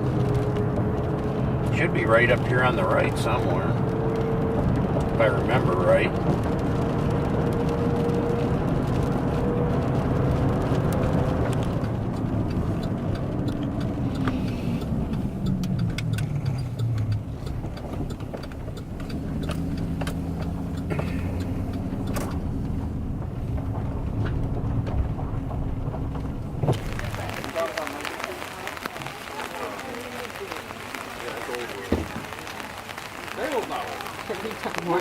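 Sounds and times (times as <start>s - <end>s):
road noise: 0.0s - 35.0s
vehicle engine: 0.0s - 35.0s.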